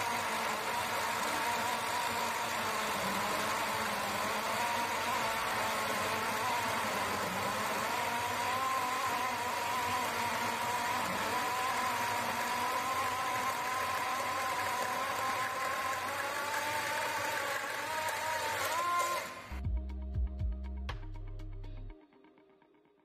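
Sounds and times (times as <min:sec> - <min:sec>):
chainsaw cutting wood: 0:00.0 - 0:19.6.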